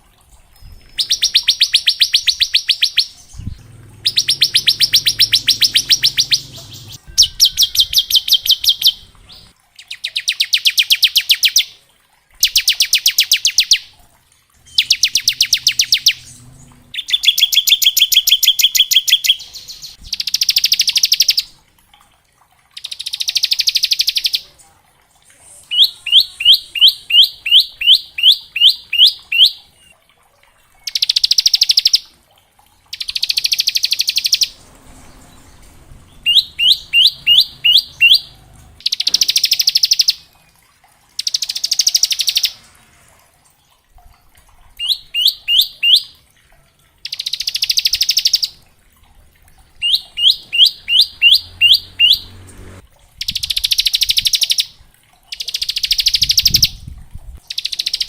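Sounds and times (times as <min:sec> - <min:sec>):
bird chirping and trilling: 0:00.3 - 0:11.8, 0:12.4 - 0:13.9, 0:14.6 - 0:21.6, 0:22.8 - 0:24.6, 0:25.5 - 0:30.0, 0:30.8 - 0:32.1, 0:32.9 - 0:40.3, 0:41.2 - 0:42.7, 0:44.8 - 0:46.2, 0:47.0 - 0:48.6, 0:49.7 - 0:56.9, 0:57.5 - 0:58.0.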